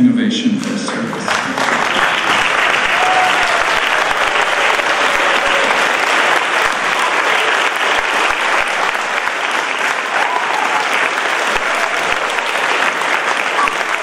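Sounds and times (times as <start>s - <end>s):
audience applause: 0.8s - 14.0s.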